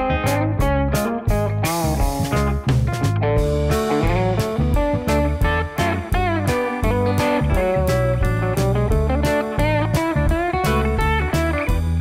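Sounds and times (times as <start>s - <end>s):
guitar-led background music: 0.0s - 12.0s.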